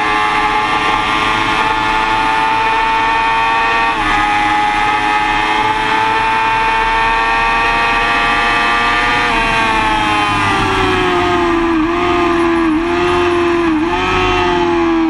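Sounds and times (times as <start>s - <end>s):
motorcycle engine high revs: 0.0s - 15.0s.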